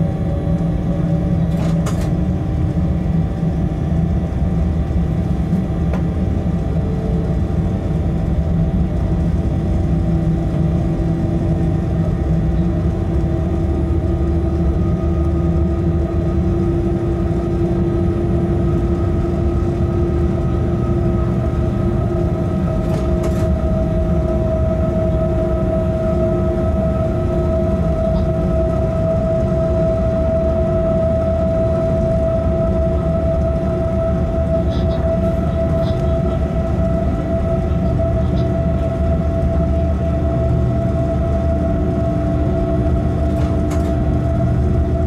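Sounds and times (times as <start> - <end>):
locomotive whine rising in pitch: 0.0 - 45.0
wheels rumbling on rail: 0.0 - 45.0.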